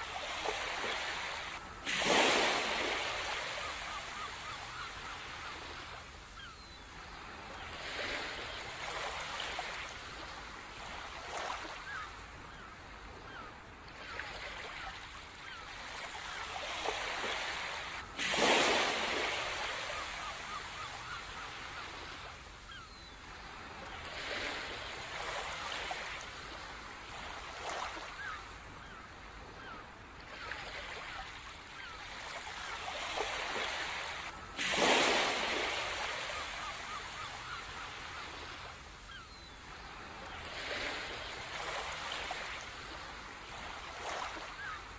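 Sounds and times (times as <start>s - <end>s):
ocean surf on beach: 0.0s - 12.5s, 13.3s - 29.8s, 30.4s - 44.9s.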